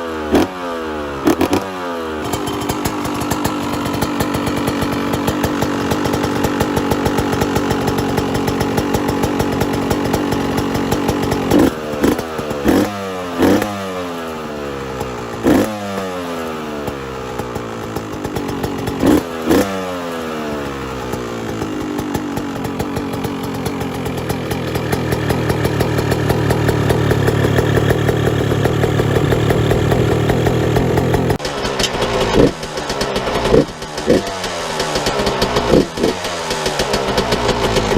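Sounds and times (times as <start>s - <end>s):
motorcycle engine running and revving: 0.0s - 37.9s.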